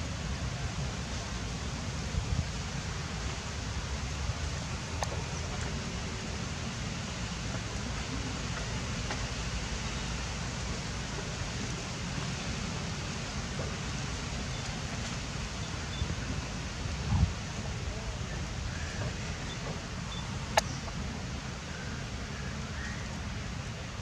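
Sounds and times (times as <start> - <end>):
even hiss: 0.0 - 24.0.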